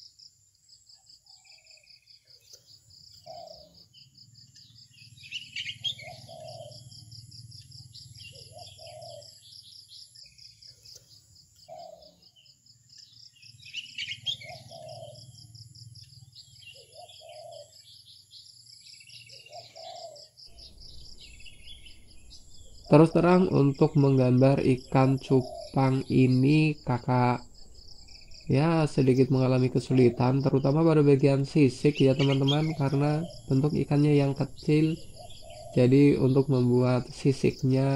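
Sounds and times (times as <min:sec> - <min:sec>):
birds chirping: 0:00.0 - 0:37.9
insects trilling: 0:00.0 - 0:37.9.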